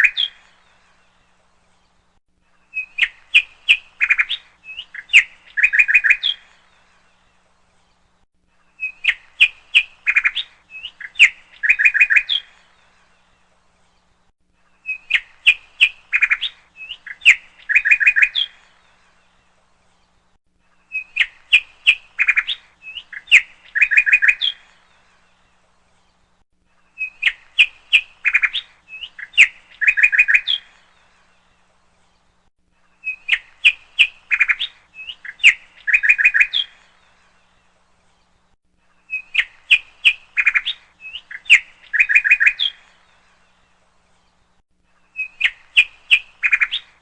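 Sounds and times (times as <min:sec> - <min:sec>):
bird chirps and trills: 0:00.0 - 0:47.0.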